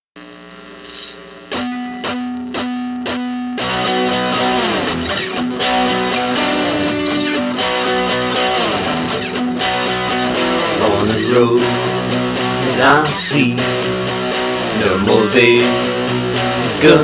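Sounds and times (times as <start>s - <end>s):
folk music with effected guitar: 0.4s - 17.0s.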